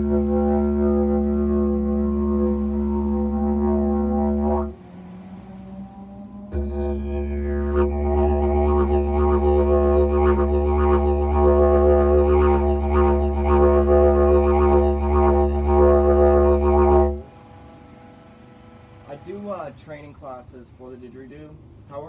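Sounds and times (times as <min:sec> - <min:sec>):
didgeridoo drone: 0:00.0 - 0:18.3.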